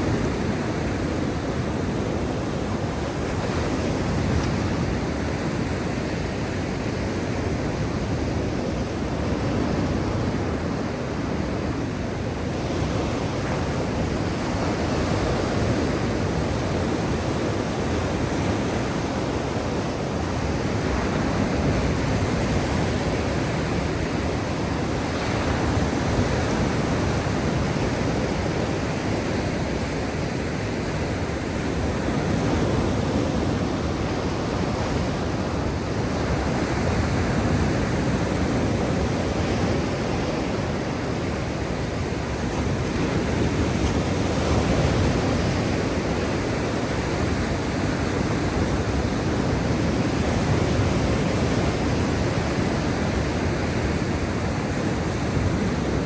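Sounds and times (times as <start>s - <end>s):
waves washing on shore: 0.0s - 56.0s.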